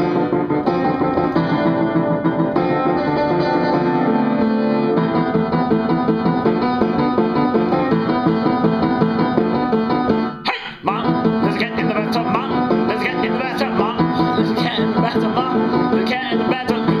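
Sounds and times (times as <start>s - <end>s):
piano playing fast runs: 0.0s - 17.0s.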